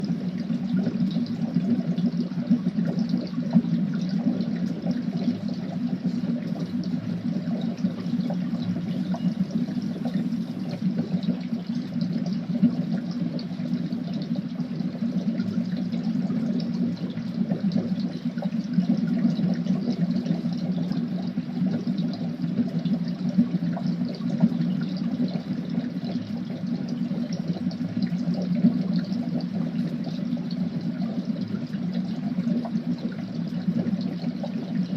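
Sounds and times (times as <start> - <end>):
liquid bubbling: 0.0 - 34.9.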